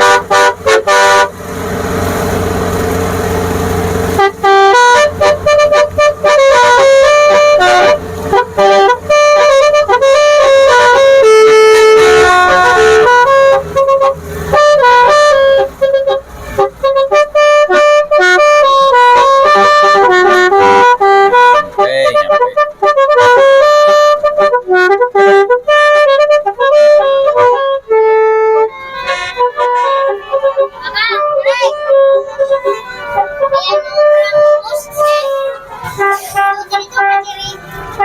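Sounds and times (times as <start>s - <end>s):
melody air horn playing tune: 0.0s - 1.4s, 4.1s - 38.0s.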